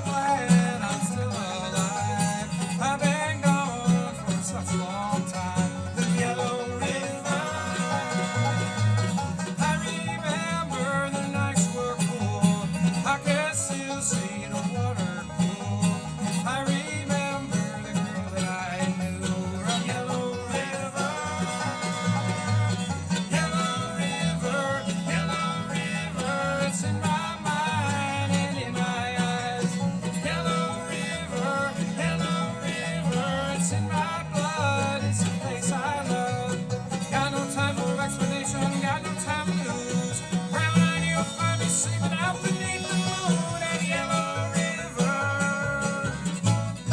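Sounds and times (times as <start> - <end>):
banjo picking: 0.0 - 46.9
guitar: 0.0 - 46.9.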